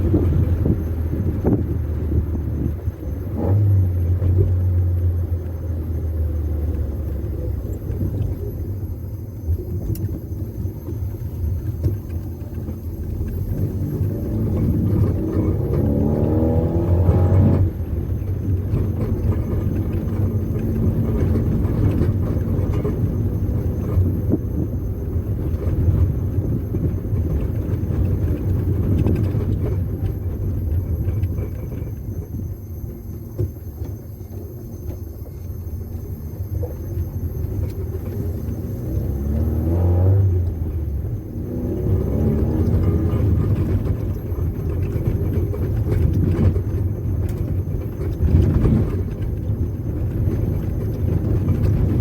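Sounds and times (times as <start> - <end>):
car engine rumbling: 0.0 - 52.0.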